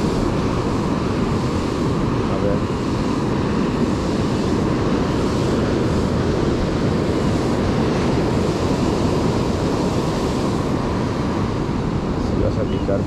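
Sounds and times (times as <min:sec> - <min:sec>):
surf on beach: 0:00.0 - 0:13.0
wind on microphone: 0:00.0 - 0:13.0.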